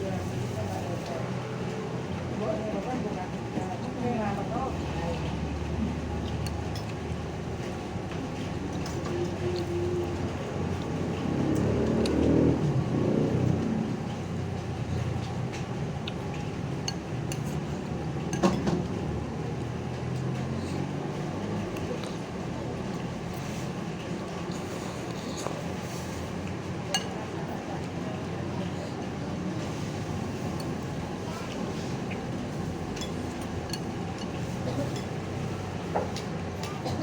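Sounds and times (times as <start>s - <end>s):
low rumble of vehicle engines: 0.0s - 37.0s.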